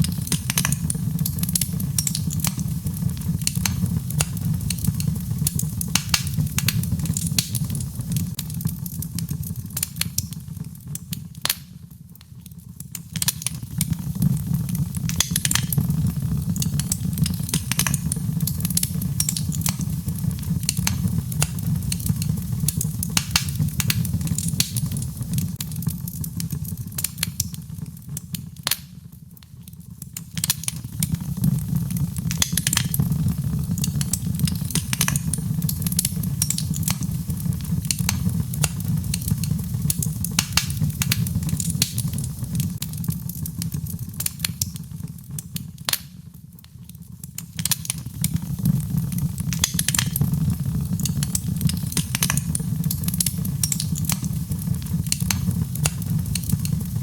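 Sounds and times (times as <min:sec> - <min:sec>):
fire rumbling: 0:00.0 - 0:28.8, 0:29.6 - 0:45.9, 0:47.2 - 0:57.0
fire crackling and popping: 0:00.0 - 0:57.0.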